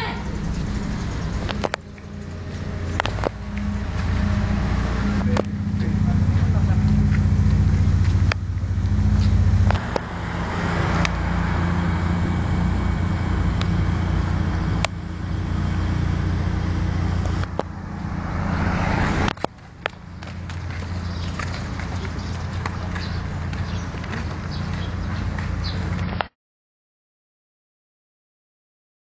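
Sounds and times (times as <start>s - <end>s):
street traffic: 0.0s - 26.3s
vehicle engine humming: 0.0s - 26.3s.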